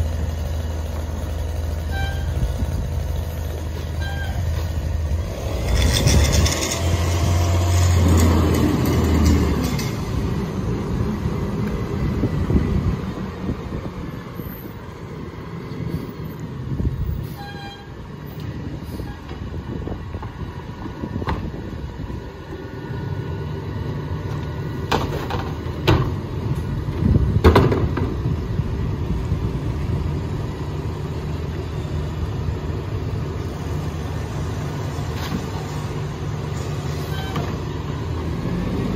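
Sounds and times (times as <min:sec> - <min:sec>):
garbage truck engine: 0:00.0 - 0:38.9.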